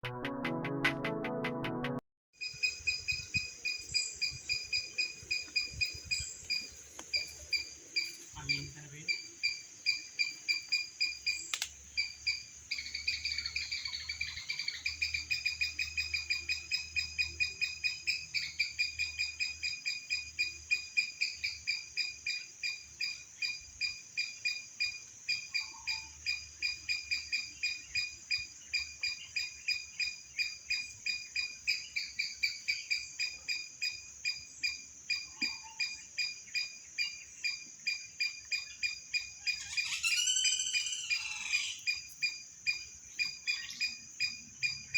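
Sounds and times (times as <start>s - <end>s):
high-pitched chirping call: 2.4s - 20.6s, 24.8s - 44.9s.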